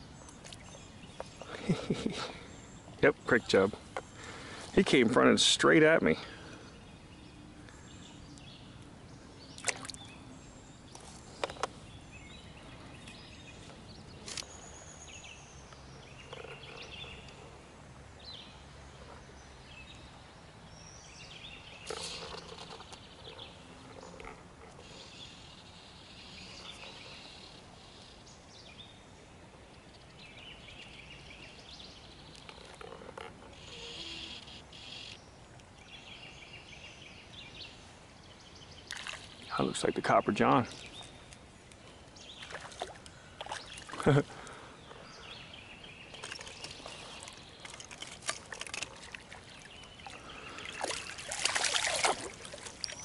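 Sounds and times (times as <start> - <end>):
birds calling: 0.0 - 53.0.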